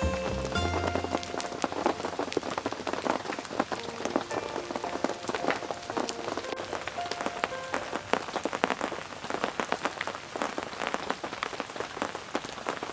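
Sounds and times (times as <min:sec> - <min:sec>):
raindrops tapping: 0:00.0 - 0:12.9
steady rainfall: 0:00.0 - 0:12.9.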